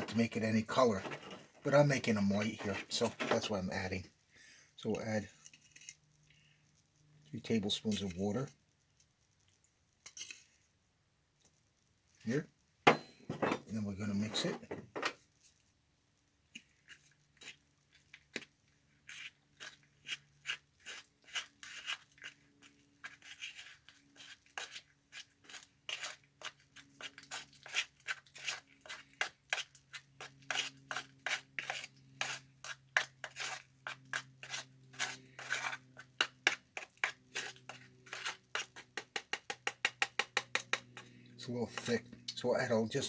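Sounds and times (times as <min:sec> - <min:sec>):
spoon stirring thick paste: 0:00.0 - 0:04.0, 0:07.2 - 0:10.6, 0:12.2 - 0:15.6, 0:16.5 - 0:43.0.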